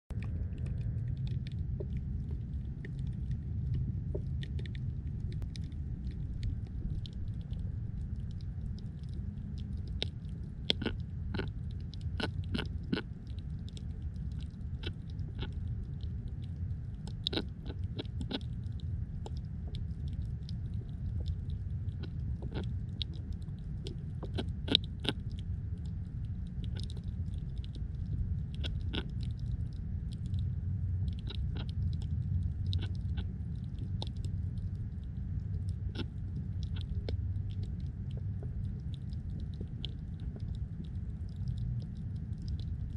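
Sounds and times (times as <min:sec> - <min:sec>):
underwater low rumble: 0:00.0 - 0:42.9
sharp underwater clicks and snaps: 0:00.1 - 0:42.9.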